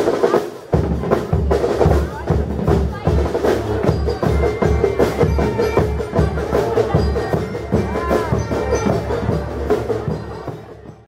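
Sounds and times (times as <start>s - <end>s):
bass drums and cymbals: 0.0s - 11.0s
marching band brass: 0.0s - 11.0s.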